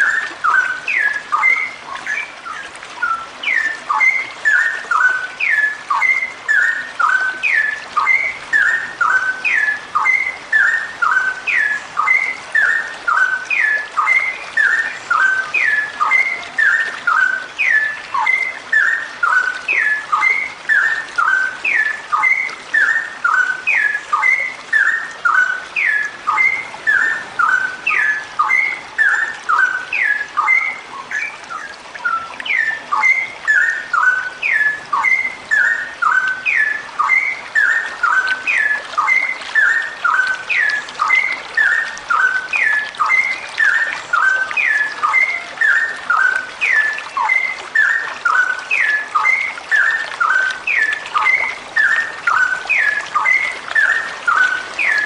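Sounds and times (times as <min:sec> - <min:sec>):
bird calling whistled phrases: 0:00.0 - 0:55.0.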